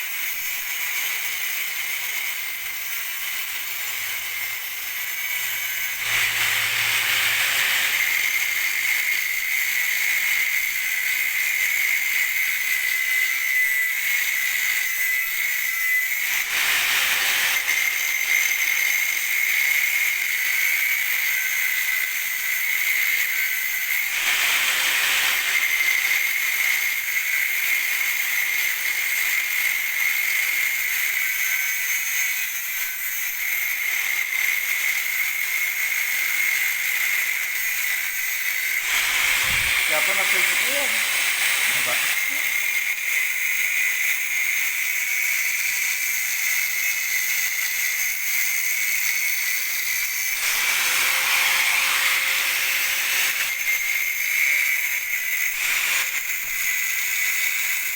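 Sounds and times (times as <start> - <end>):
angle grinder grinding metal: 0.0 - 57.9.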